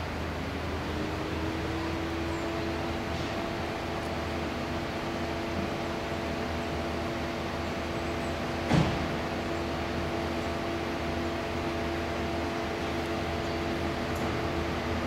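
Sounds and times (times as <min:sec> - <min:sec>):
diesel engines idling: 0:00.0 - 0:15.0.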